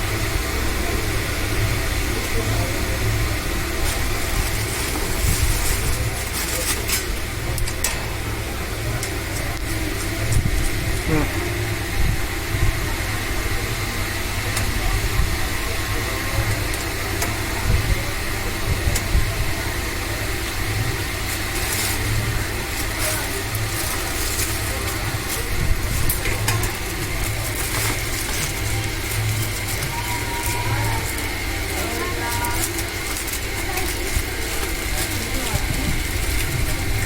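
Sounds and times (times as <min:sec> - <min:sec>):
table fan running: 0:00.0 - 0:37.0.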